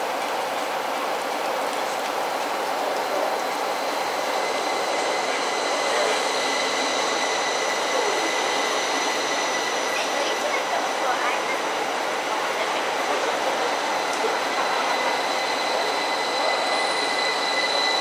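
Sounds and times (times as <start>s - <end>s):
train wheels rumbling on rails: 0.0s - 18.0s
electric traction whine: 2.2s - 18.0s.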